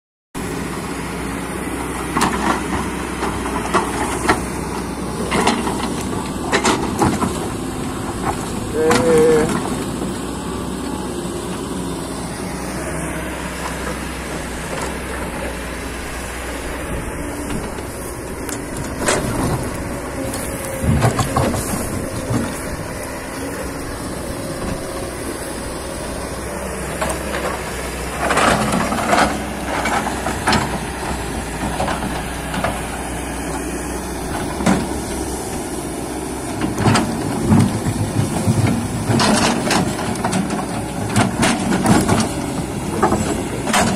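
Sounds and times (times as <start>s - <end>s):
excavator diesel engine running: 0.4s - 43.9s.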